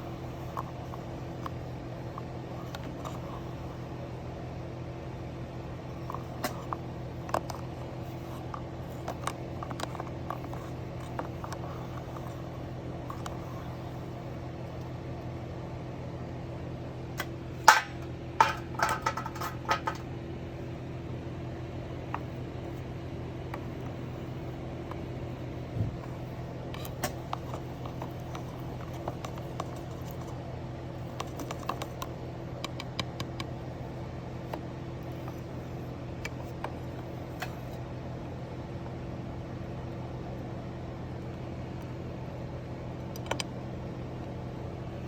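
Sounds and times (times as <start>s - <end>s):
electrical hum of furnace: 0.0s - 45.0s.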